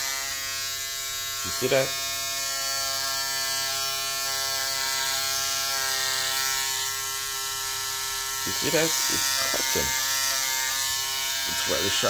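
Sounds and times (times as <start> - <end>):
electric shaver humming: 0.0 - 12.0.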